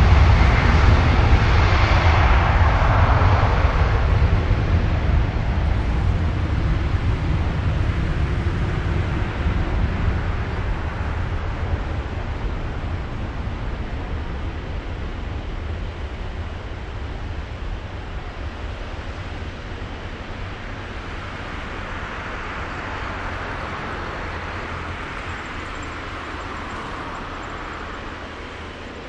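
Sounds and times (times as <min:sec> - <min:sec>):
jet engines at takeoff power: 0:00.0 - 0:29.0.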